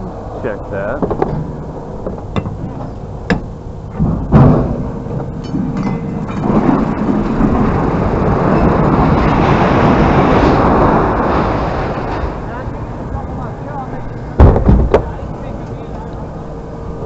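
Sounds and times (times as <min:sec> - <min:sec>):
loud rumbling metal clatter: 0:00.9 - 0:15.9.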